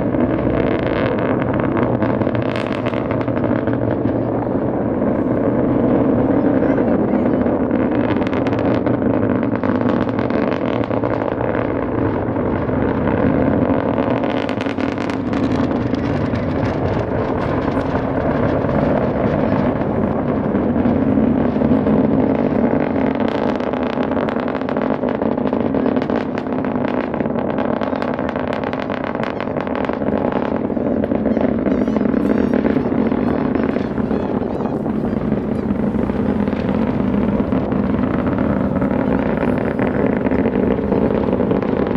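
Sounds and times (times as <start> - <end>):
distant rocket engines rumbling: 0.0 - 41.9.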